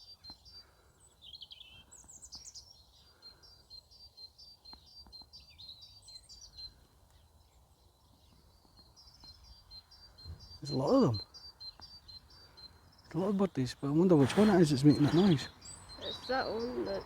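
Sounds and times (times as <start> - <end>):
bird chirping phrases: 0.0 - 17.0
small songbirds calling: 0.0 - 17.0.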